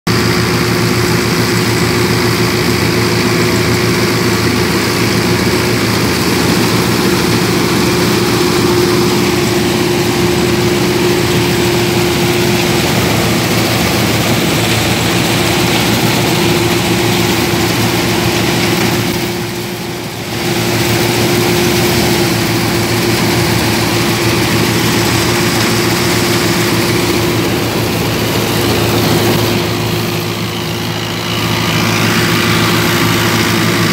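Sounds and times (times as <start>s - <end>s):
reaper machinery running: 0.1s - 33.9s
tractor diesel engine running: 0.1s - 33.9s.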